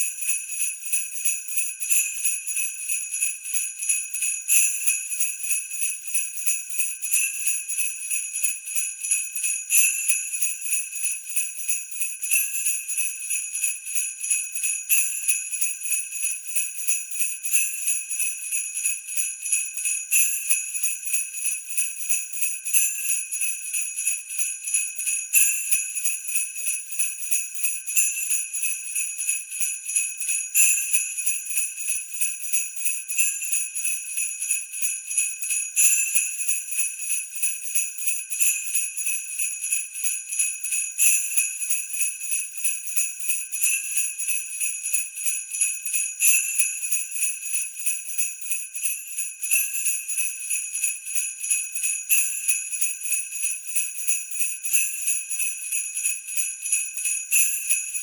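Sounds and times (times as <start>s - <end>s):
sleigh bells jingling: 0.0s - 58.0s.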